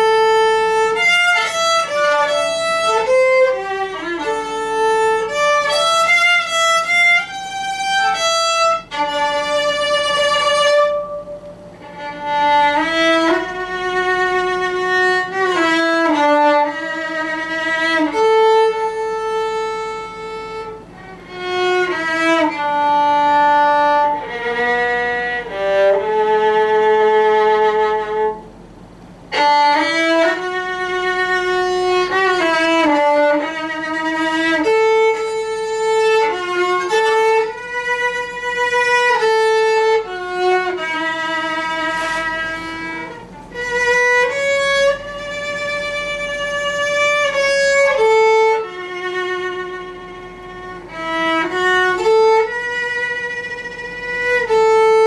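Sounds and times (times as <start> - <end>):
violin melody with vibrato: 0.0 - 28.5, 29.3 - 55.0
lower second violin part: 0.0 - 55.0.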